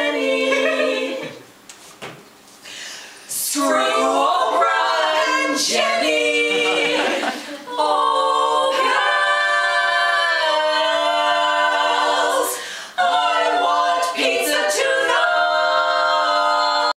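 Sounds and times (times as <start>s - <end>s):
women singing in harmony: 0.0s - 1.6s, 3.3s - 17.0s.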